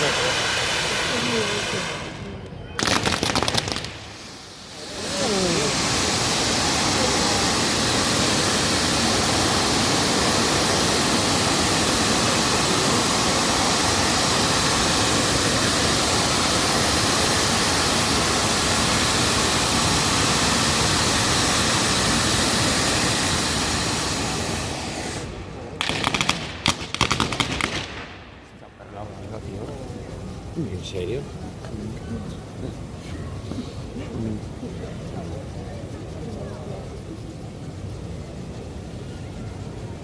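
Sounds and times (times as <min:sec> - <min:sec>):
fireworks barrage hissing: 0:00.0 - 0:40.0.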